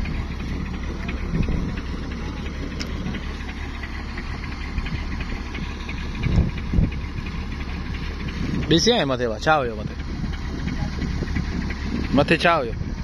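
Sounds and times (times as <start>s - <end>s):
low bumps: 0.0s - 13.0s
truck diesel engine idling: 0.0s - 13.0s.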